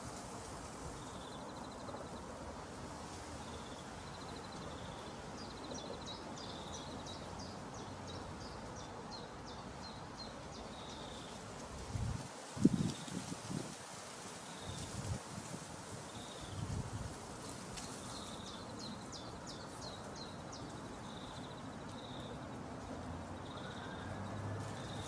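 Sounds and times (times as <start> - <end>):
low background noise: 0.0 - 25.0.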